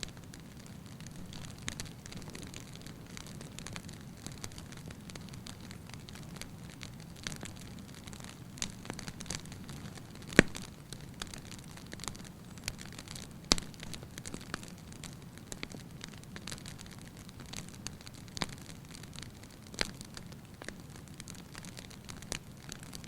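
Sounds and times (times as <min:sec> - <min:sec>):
loud fire pops: 0:00.0 - 0:23.0
wood fire crackling: 0:00.0 - 0:23.0.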